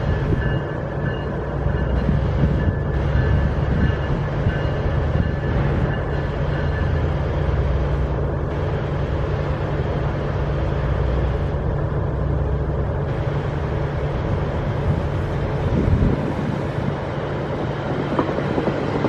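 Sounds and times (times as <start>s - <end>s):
train rumble and engine drone: 0.0s - 19.0s.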